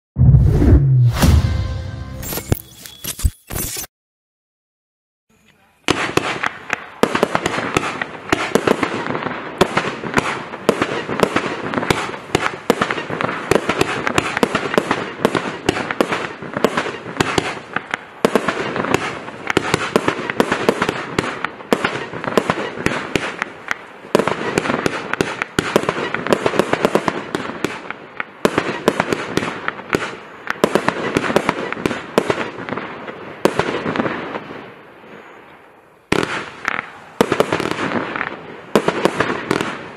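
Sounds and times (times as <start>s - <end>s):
firework shots popping and banging: 5.9s - 34.4s, 36.1s - 39.9s.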